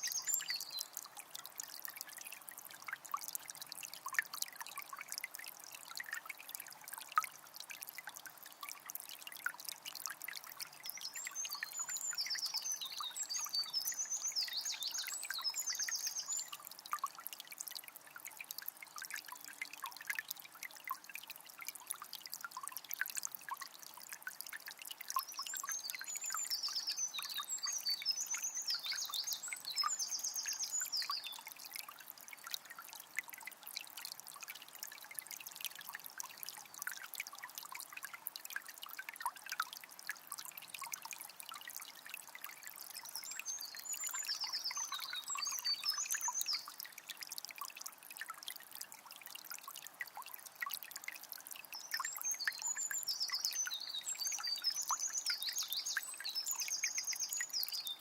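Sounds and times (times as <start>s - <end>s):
spring water trickling: 0.0s - 58.0s.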